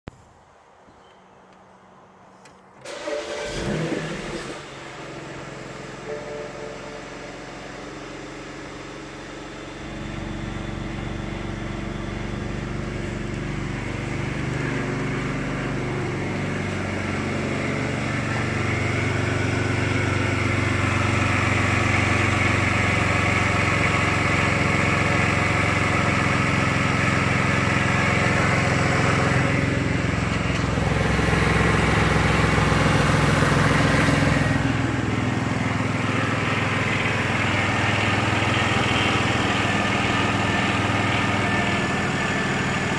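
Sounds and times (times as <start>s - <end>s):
car engine idling: 2.8s - 42.9s.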